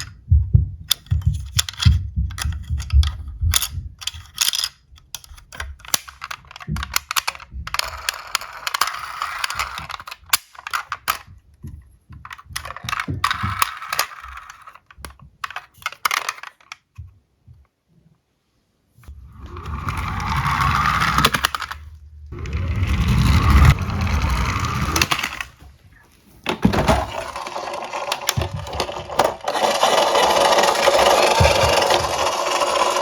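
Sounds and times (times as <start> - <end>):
toy cars clicking and clattering: 0.9 - 11.3, 12.2 - 17.0, 19.0 - 25.6, 26.5 - 33.0
toy cars rattling as they roll: 1.0 - 11.3, 12.2 - 16.8, 19.6 - 25.6, 26.5 - 33.0.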